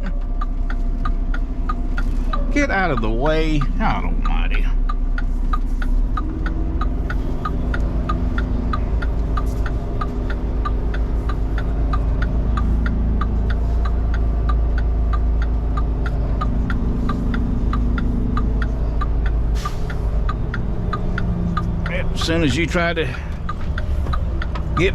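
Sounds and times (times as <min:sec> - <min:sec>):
diesel truck engine running: 0:00.0 - 0:24.9
light even ticking: 0:00.0 - 0:24.9.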